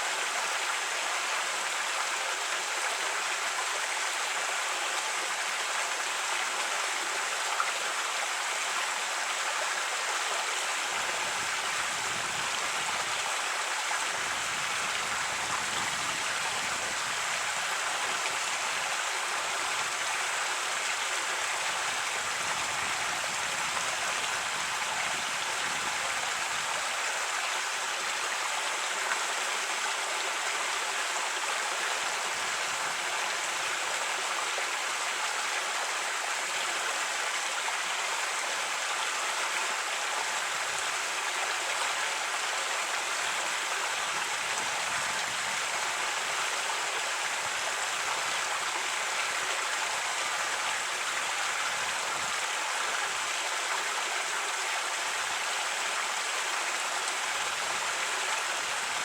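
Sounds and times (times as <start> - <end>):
creek running over rocks: 0.0 - 59.0.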